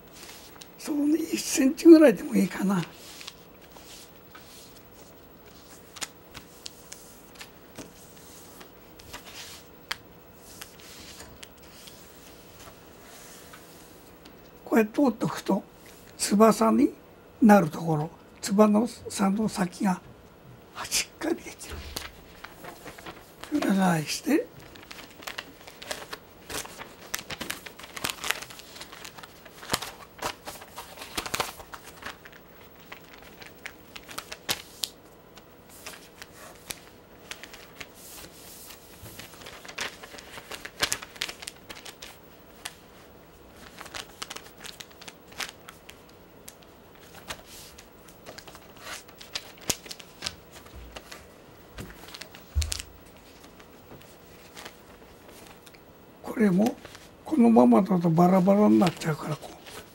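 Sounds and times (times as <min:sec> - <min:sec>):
paper rustling and crinkling: 0:00.0 - 0:01.5, 0:02.1 - 0:14.4, 0:21.4 - 0:55.8, 0:56.5 - 0:57.2, 0:58.3 - 0:59.9.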